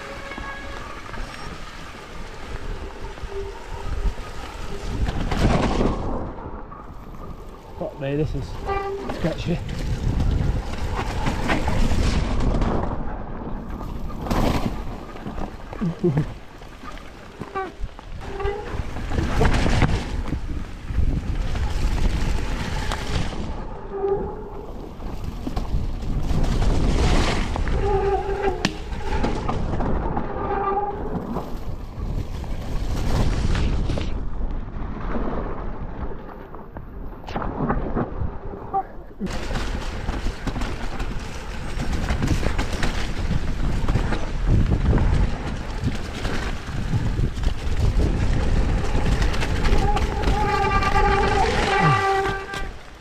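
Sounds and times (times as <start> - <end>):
mountain bike rattling: 0.0 - 36.7, 38.3 - 53.0
wind buffeting microphone: 0.0 - 53.0.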